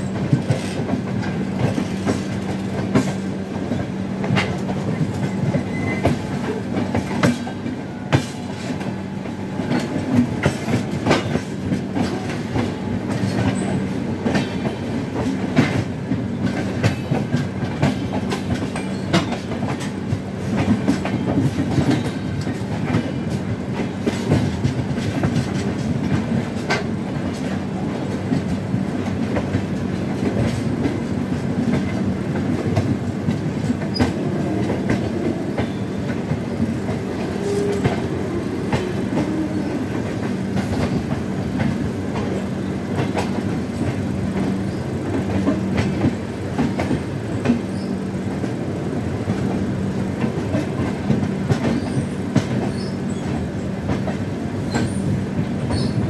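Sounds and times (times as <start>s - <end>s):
train wheels clattering: 0.0s - 56.0s.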